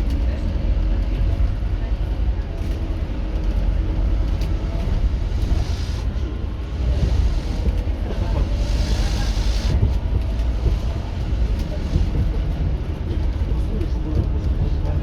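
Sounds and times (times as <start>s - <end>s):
bus diesel engine droning: 0.0s - 14.4s.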